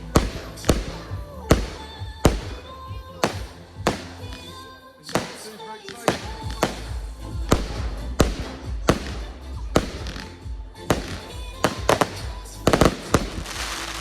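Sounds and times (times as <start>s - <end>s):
music with steady bass: 0.0s - 4.7s, 6.1s - 14.0s
fireworks bangs: 0.0s - 14.0s.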